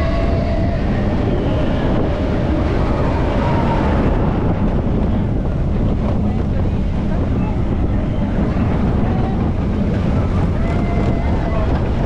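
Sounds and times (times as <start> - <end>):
roller coaster rumbling on track: 0.0 - 12.0
wind buffeting microphone: 0.0 - 12.0.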